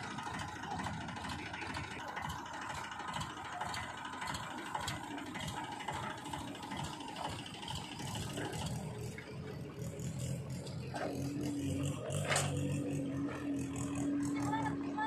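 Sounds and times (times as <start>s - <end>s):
backhoe loader engine running: 0.0s - 15.0s
tractor diesel engine running: 0.0s - 15.0s.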